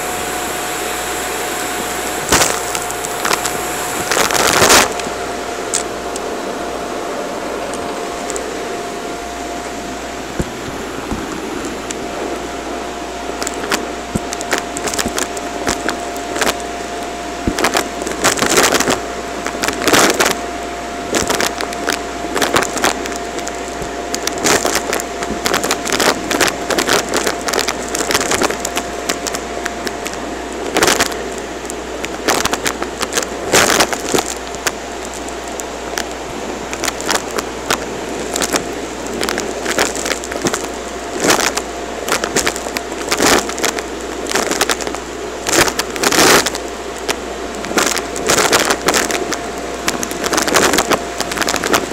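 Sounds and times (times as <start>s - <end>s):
vacuum cleaner whine: 0.0s - 51.9s.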